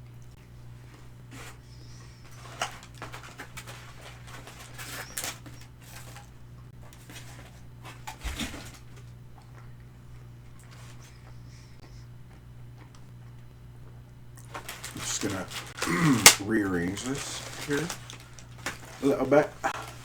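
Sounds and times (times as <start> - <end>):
crunching and chewing fried chicken: 0.0 - 20.0
steady low hum: 0.0 - 20.0.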